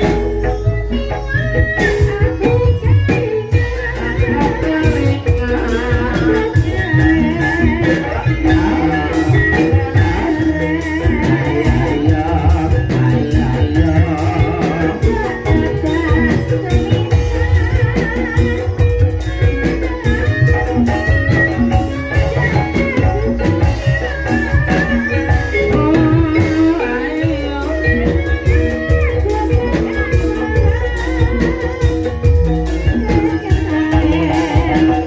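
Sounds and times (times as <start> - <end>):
drums: 0.0 - 35.0
struck metallophones: 0.0 - 35.0.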